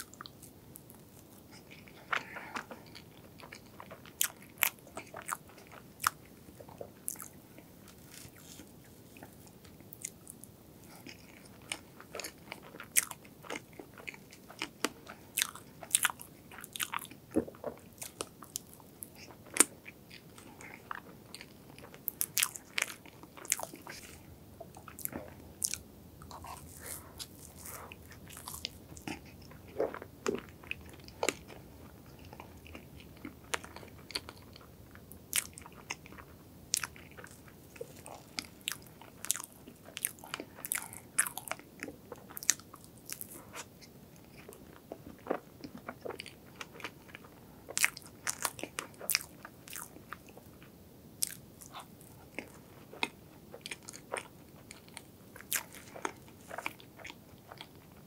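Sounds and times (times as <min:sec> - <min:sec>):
chewing with wet mouth clicks: 0:10.9 - 0:58.0.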